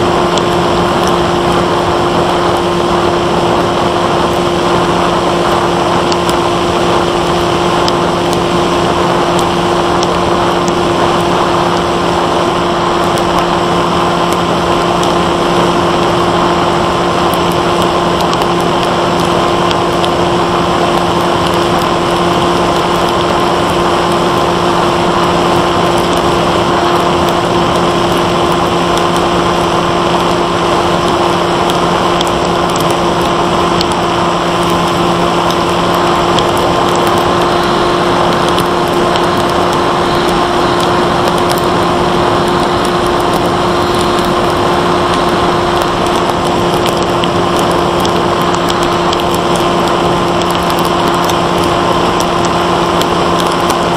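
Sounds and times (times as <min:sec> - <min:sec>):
electric motor and propeller humming: 0:00.0 - 0:53.9
wind noise: 0:00.0 - 0:53.9.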